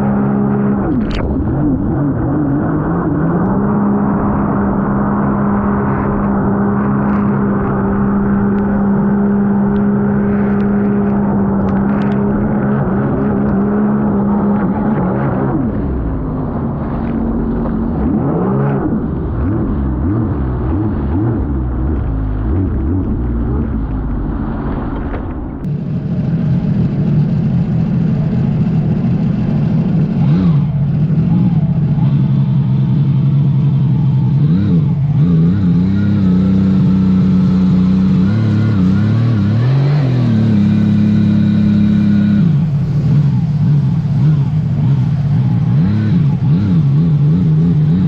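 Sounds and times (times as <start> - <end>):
low rumble: 0.0 - 48.0
personal watercraft engine running: 0.0 - 48.0.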